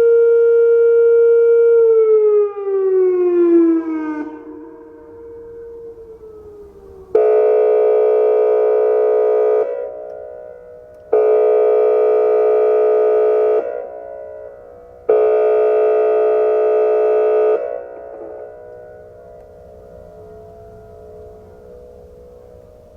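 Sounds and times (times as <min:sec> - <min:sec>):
chord-like siren blasts: 0:00.0 - 0:22.9
siren echoes: 0:00.0 - 0:22.9.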